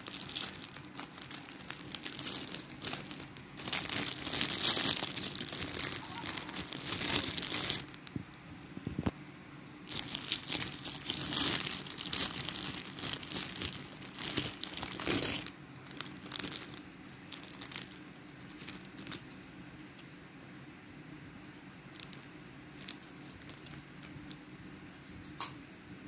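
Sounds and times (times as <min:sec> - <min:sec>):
plastic bag crinkling: 0:00.0 - 0:09.1, 0:09.8 - 0:20.1, 0:21.9 - 0:24.6.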